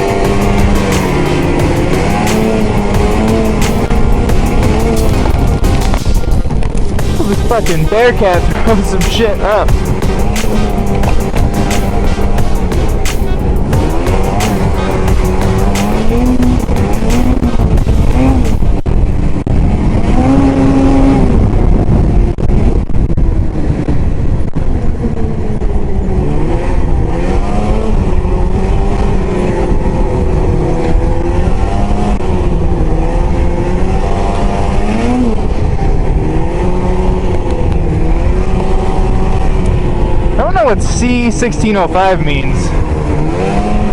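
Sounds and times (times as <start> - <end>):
snowmobile engine revving: 0.0 - 22.7, 23.5 - 43.9.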